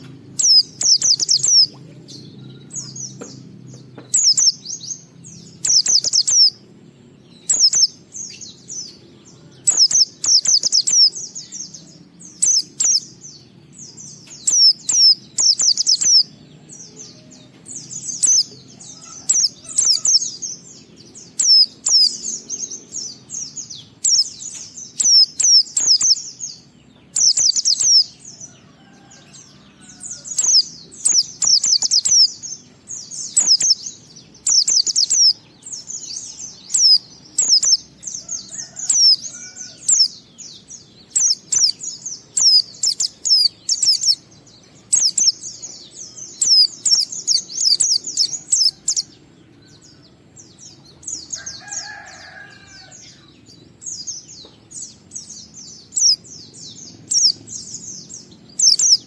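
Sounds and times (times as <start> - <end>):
lower-pitched bird call: 0.0 - 3.4, 4.0 - 6.6, 7.3 - 13.2, 13.8 - 50.1, 50.9 - 53.6
bird twittering song: 0.0 - 59.0.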